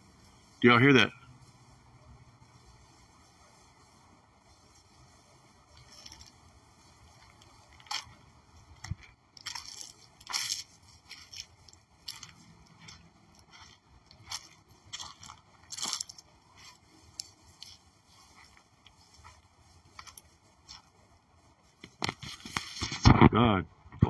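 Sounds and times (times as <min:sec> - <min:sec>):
dry leaves crunching: 0:00.0 - 0:23.0.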